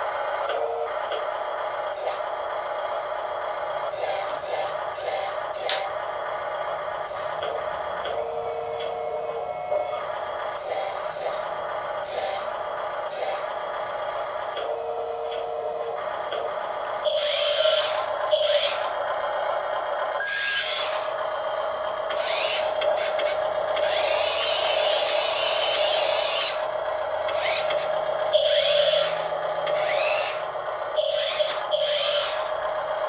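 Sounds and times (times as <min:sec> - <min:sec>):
electric motors whining: 0:00.0 - 0:33.0
steady hum: 0:01.7 - 0:33.0.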